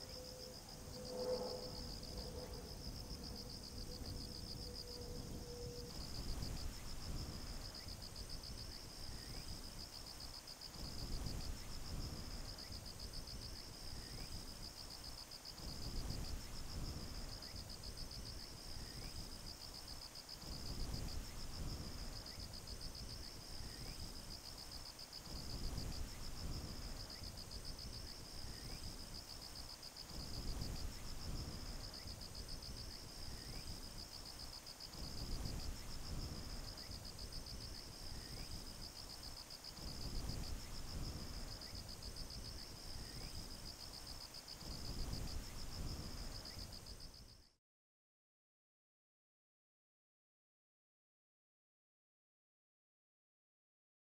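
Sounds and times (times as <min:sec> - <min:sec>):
insects trilling: 0:00.0 - 0:47.3.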